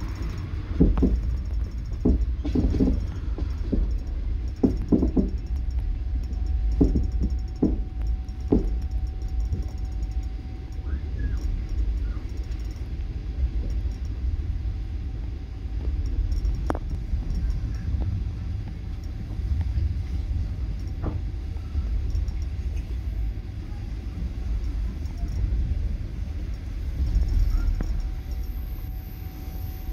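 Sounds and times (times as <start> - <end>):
train clunks: 0.0 - 14.4, 15.8 - 29.9
faint steady whine: 0.0 - 29.9
train rumbling: 0.0 - 29.9.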